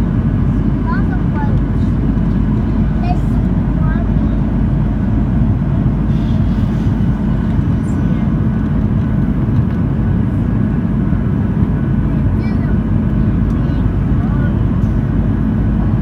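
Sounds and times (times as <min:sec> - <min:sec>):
jet engine cabin roar: 0:00.0 - 0:16.0.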